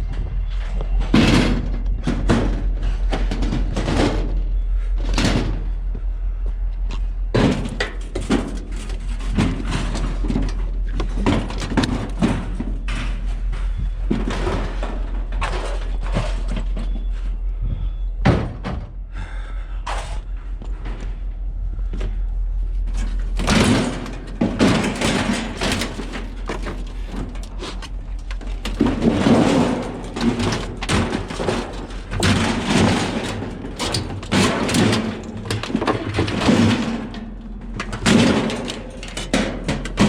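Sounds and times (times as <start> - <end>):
low hum: 0.0 - 40.0
scrap metal clunking and banging: 0.0 - 40.0.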